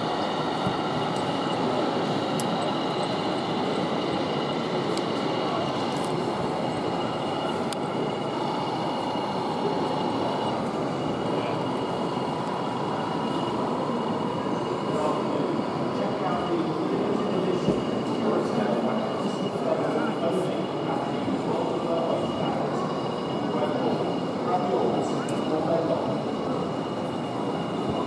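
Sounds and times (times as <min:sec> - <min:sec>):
crowd hubbub: 0:00.0 - 0:28.0.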